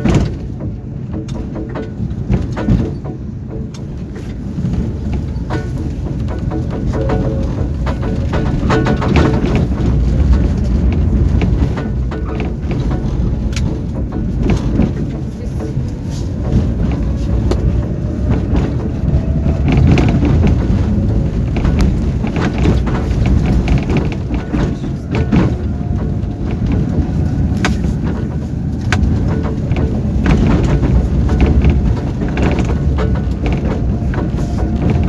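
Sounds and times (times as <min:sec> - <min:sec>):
sharp clacks: 0:00.0 - 0:35.0
tram wheels rumbling on rails: 0:00.0 - 0:35.0.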